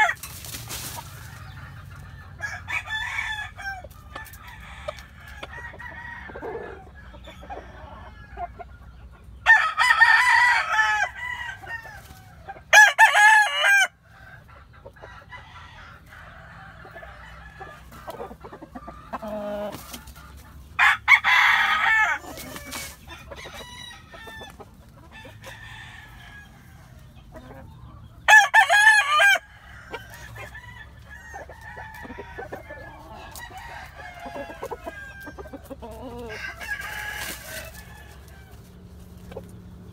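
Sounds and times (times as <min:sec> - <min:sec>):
hens clucking: 0:00.0 - 0:39.9
roosters crowing: 0:00.0 - 0:39.9.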